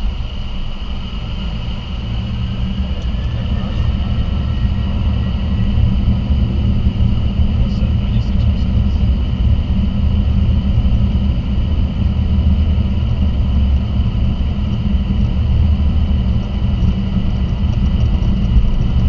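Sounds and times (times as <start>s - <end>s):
jet engines rumbling: 0.0s - 19.0s
steady high whine: 0.0s - 19.0s
wheels on runway: 0.0s - 19.0s.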